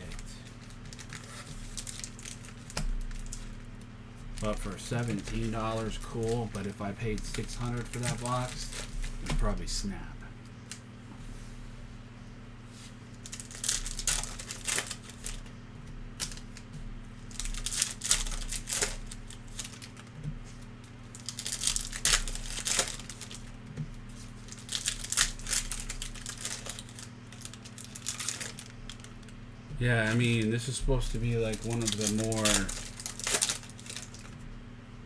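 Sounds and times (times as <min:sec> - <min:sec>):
plastic wrappers crinkling and tearing: 0:00.0 - 0:09.8, 0:13.1 - 0:15.5, 0:16.1 - 0:34.5
faint steady hum: 0:00.0 - 0:35.0.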